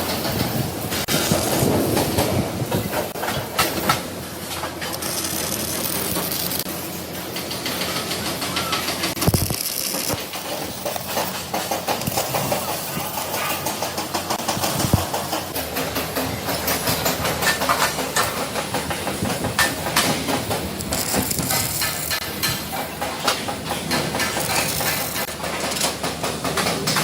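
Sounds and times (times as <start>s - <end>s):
factory machinery noise: 0.0s - 27.0s.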